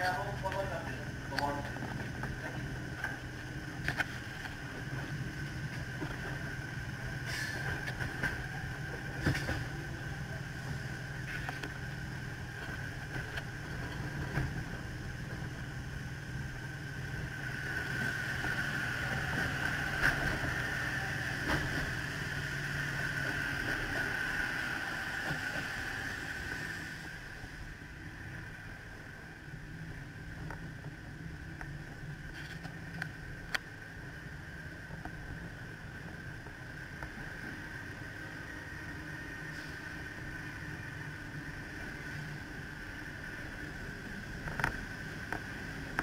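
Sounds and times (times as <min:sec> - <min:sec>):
passing train: 0:00.0 - 0:46.0
train rumble inside carriage: 0:00.0 - 0:46.0.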